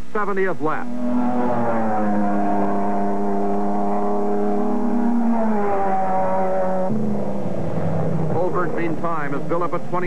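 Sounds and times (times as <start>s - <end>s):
racing car engines revving: 0.6s - 10.0s.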